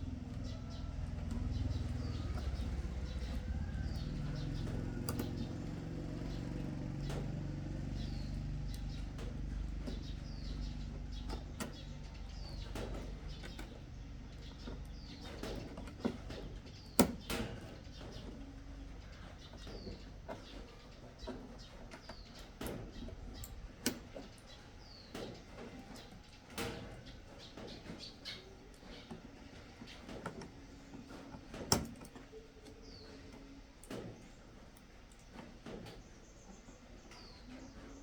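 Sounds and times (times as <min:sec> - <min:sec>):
small bird chirping: 0:00.0 - 0:31.2
low steady hum: 0:00.0 - 0:38.0.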